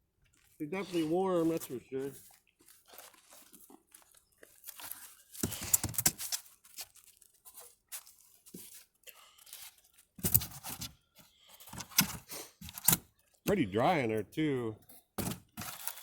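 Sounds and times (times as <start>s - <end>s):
crackling and scraping of beehive: 0.3s - 13.1s, 15.0s - 16.0s.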